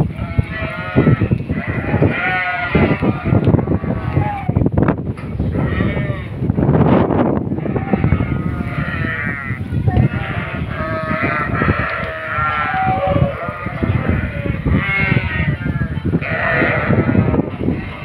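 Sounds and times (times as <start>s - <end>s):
flock of sheep bleating: 0.0s - 4.6s, 5.4s - 6.4s, 7.5s - 18.0s.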